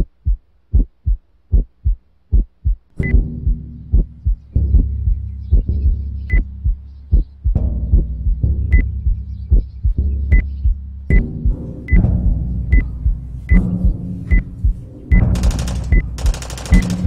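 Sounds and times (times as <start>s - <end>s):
pulse of low thuds: 0.0s - 17.0s.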